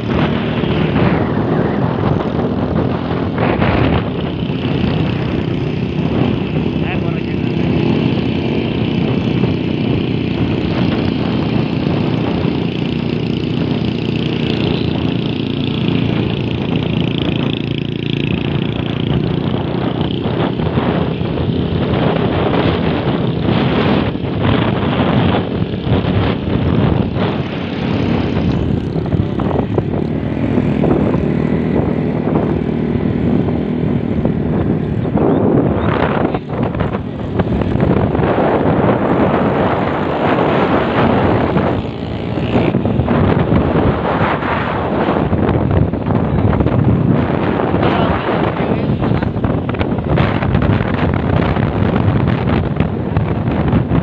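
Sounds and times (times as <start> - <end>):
vehicle engine running: 0.0 - 54.0
wind rushing over microphone: 0.0 - 54.0.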